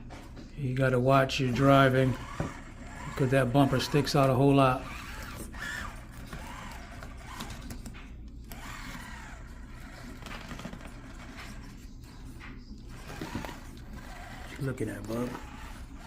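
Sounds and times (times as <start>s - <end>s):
electric motor and gears whining: 0.6s - 16.0s.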